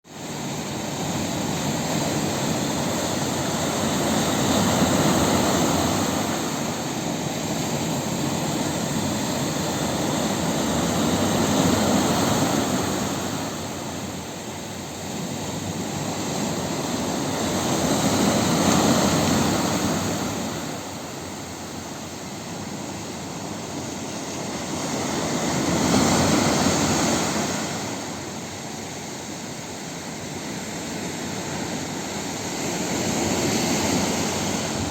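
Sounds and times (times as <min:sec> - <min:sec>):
heavy surf crashing: 0:00.1 - 0:34.9.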